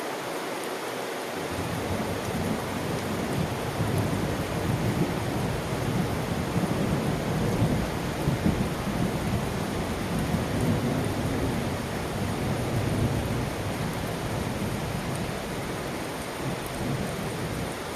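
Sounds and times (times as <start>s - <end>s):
heavy rain falling: 0.0s - 17.9s
rumble of thunder: 1.6s - 17.8s.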